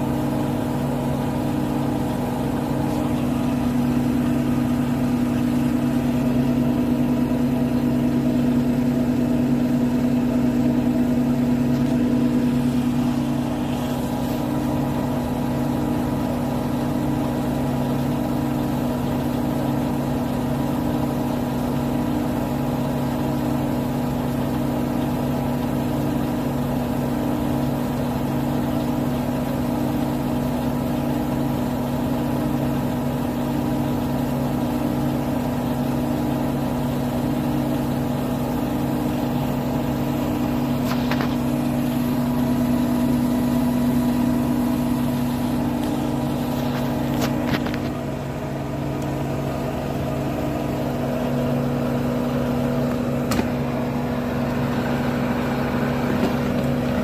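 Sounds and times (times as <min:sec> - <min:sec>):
washing machine spinning: 0:00.0 - 0:57.0
washing machine whine: 0:00.0 - 0:57.0.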